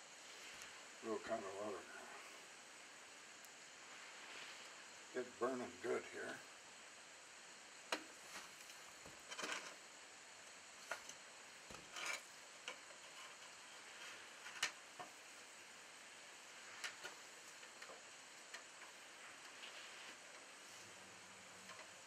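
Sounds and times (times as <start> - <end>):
fire hissing and crackling: 0.0 - 22.0.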